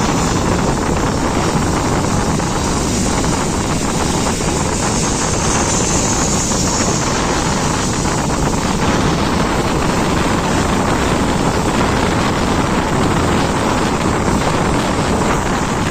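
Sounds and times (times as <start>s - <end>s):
train running noise: 0.0s - 15.9s
wind buffeting microphone: 0.0s - 15.9s.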